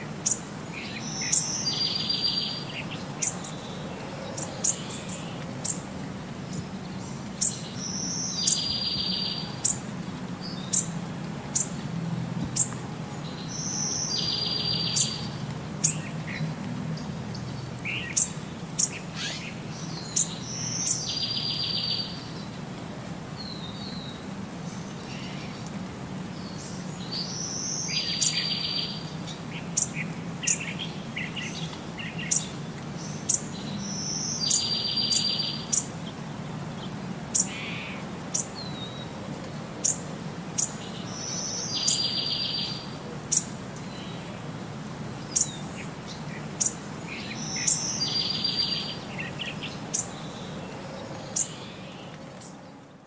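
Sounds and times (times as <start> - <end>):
birds chirping and trilling: 0.2 - 11.8, 12.6 - 22.6, 26.4 - 39.2, 39.8 - 44.3, 45.2 - 53.0.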